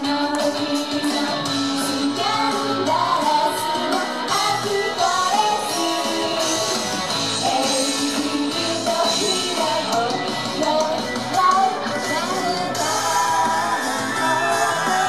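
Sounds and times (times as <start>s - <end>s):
rock backing music with drums: 0.0s - 15.0s
woman singing into microphone: 0.0s - 15.0s.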